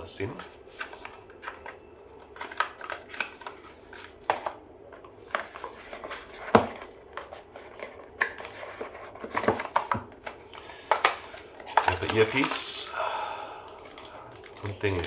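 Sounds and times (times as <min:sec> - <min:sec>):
paper and plastic rustling: 0:00.1 - 0:12.9, 0:13.7 - 0:15.0.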